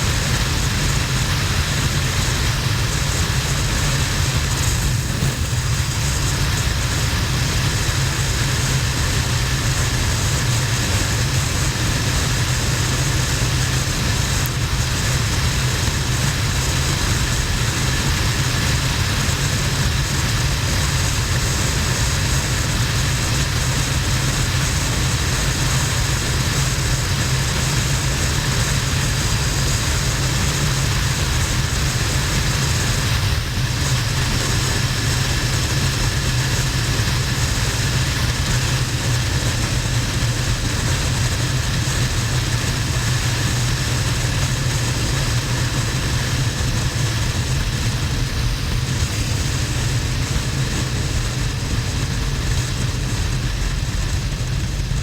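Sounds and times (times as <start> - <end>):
motorcycle engine cruising: 0.0 - 55.0
wind noise on camera: 0.0 - 55.0.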